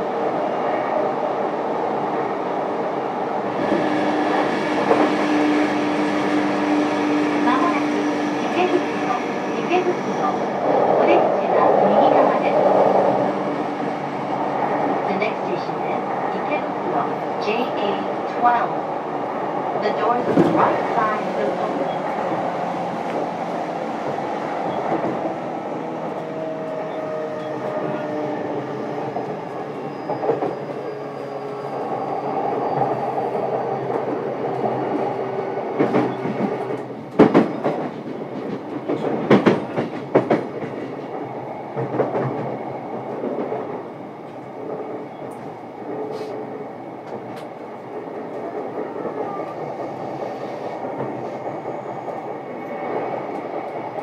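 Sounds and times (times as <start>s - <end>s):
train wheels rumbling: 2.0s - 54.0s.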